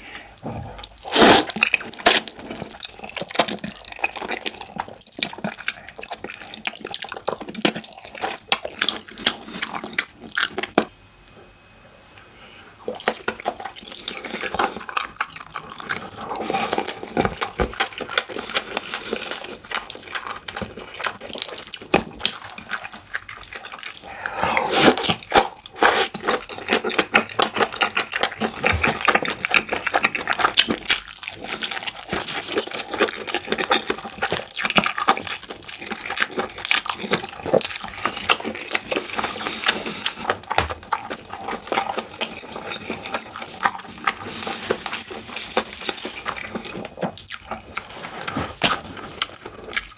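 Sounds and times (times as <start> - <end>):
close chewing with wet smacking: 0.8 - 10.9, 12.9 - 24.0, 25.0 - 49.9.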